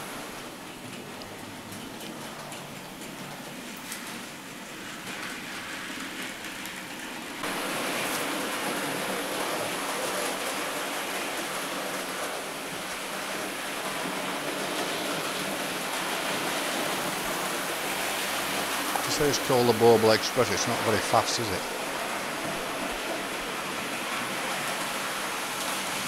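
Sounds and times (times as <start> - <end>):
model train wheels on track: 0.0 - 26.0.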